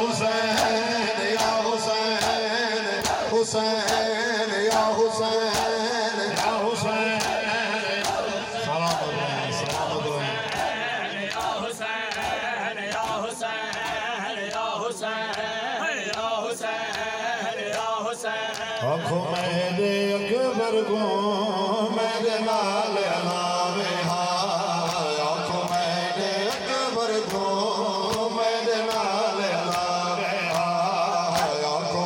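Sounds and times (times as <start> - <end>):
rhythmic chest-beating: 0.0 - 19.6, 22.1 - 32.0
men chanting in unison: 0.0 - 32.0.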